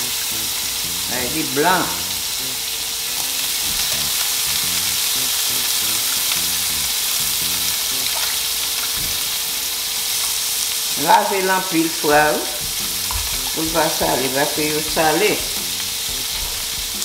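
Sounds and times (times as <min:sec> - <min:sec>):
fish sizzling in oil: 0:00.0 - 0:17.0.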